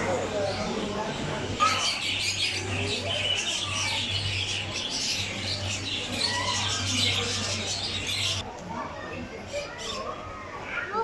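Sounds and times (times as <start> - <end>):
caged birds chirping and squawking: 0.0 - 11.0.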